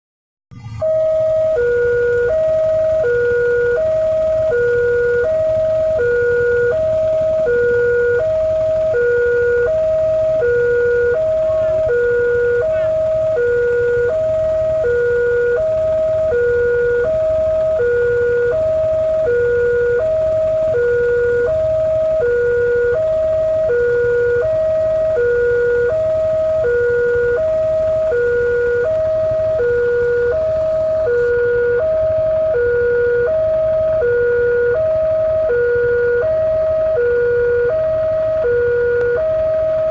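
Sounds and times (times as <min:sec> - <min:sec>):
level crossing two-tone alarm: 0:00.5 - 0:39.9.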